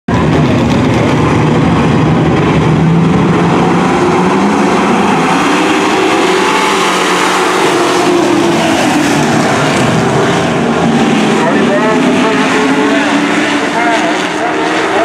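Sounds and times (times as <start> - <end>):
race trucks passing: 0.1 - 15.0.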